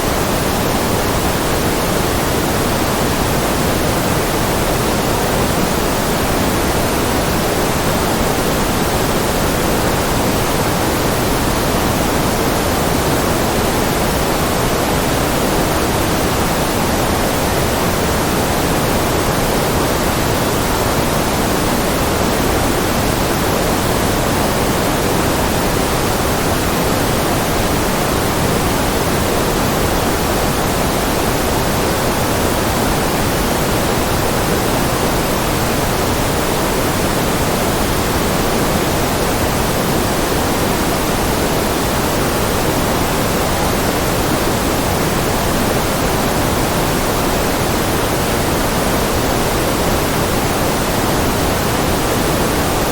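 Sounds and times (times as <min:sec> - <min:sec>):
steady noise hiss: 0:00.0 - 0:52.9.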